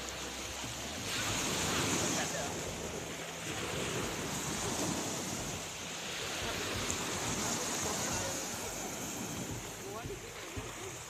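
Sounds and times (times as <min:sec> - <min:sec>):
sea waves washing onto beach: 0:00.0 - 0:11.0.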